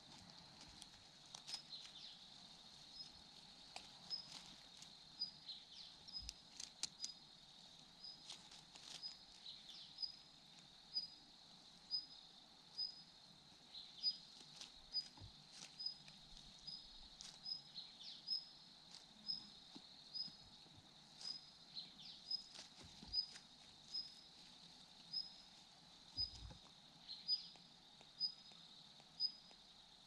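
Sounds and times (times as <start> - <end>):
light ticks and rustles: 0.0 - 12.0, 12.7 - 30.0
insect drone: 0.0 - 30.0.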